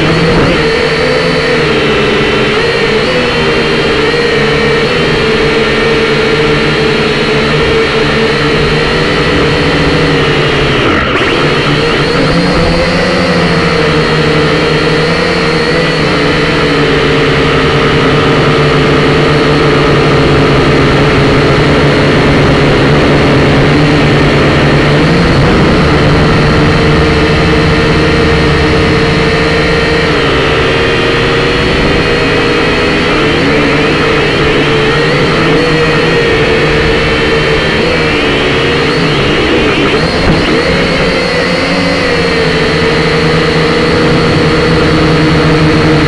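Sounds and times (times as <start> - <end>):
quadcopter propellers whirring: 0.0 - 46.0.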